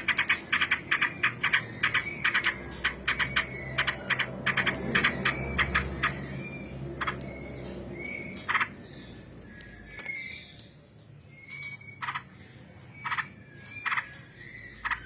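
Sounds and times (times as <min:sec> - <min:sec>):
bird singing clipped notes: 0:00.0 - 0:15.0.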